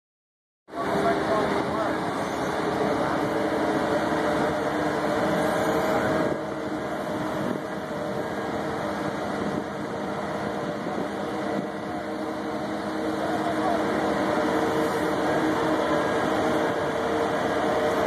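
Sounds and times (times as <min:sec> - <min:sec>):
engine droning hum: 0:00.7 - 0:18.0.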